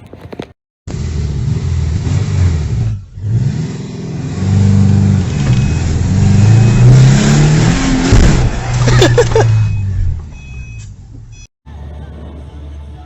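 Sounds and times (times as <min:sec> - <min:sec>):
car engine accelerating: 0:00.9 - 0:11.4.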